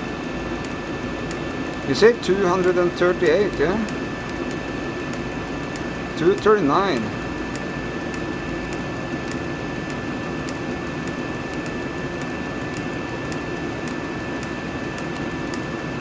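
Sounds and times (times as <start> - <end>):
heater fans humming: 0.0 - 16.0.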